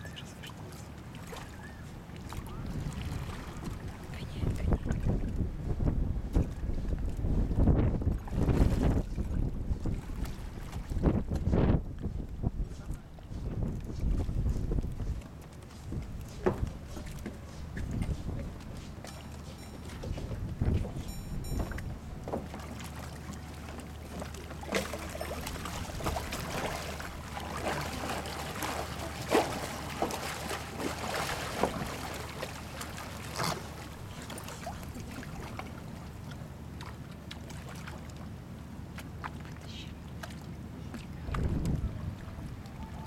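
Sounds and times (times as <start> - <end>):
seawater lapping and splashing: 0.0 - 43.0.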